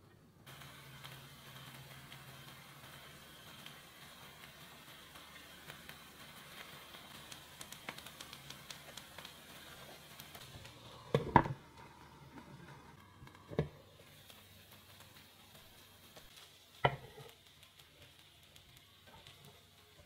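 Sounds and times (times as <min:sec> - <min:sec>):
cheese sprinkled into frying pan: 0:00.5 - 0:20.0.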